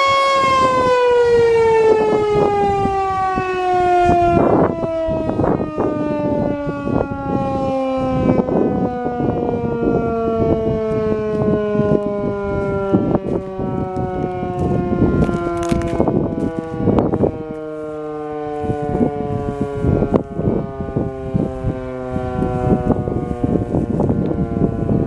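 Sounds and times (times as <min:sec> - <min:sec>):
warning siren winding down: 0:00.0 - 0:25.0.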